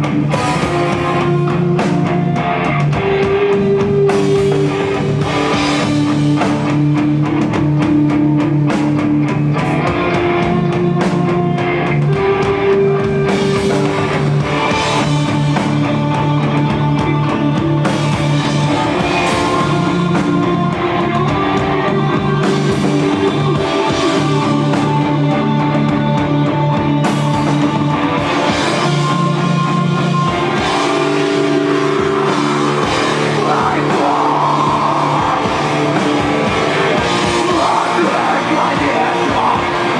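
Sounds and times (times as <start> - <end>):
drum kit: 0.0 - 39.9
guitars holding long notes: 0.0 - 39.9.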